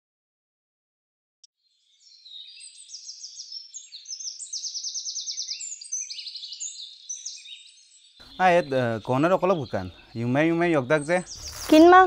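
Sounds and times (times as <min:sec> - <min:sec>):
songbirds chirping and trilling: 0:01.6 - 0:12.0.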